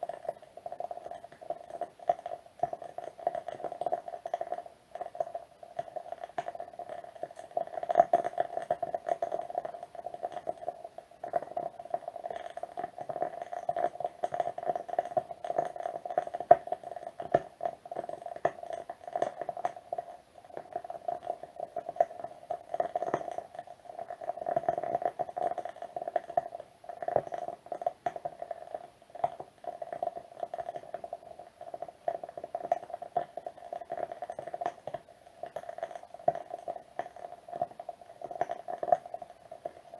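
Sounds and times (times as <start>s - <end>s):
wood wick candle crackling: 0.0s - 39.9s.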